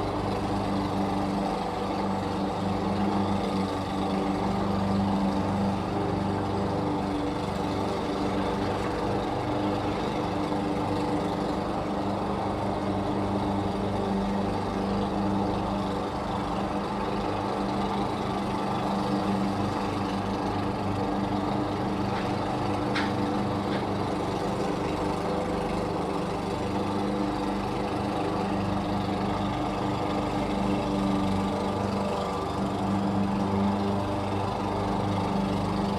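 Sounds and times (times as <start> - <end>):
lawn mower engine running: 0.0 - 35.9.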